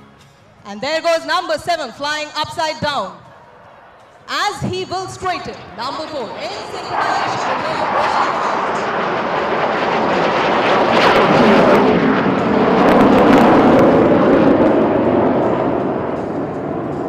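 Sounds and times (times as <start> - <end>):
jet aircraft passing overhead: 3.2 - 17.0.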